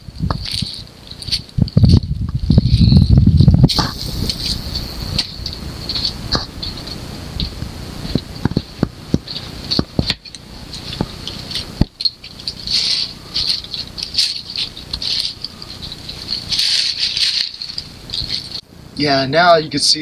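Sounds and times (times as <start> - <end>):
twigs crackling in fire: 0.0 - 18.6.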